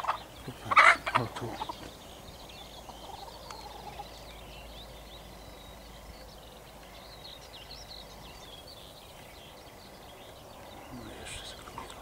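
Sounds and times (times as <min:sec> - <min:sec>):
faint outdoor noise: 0:00.0 - 0:12.0
small songbirds chirping: 0:00.0 - 0:12.0.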